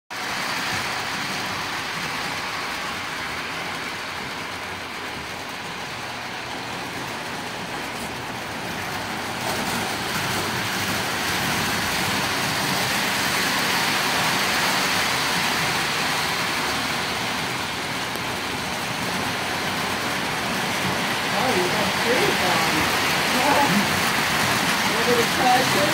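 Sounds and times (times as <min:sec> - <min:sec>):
model train whirring on rails: 0:00.1 - 0:25.9.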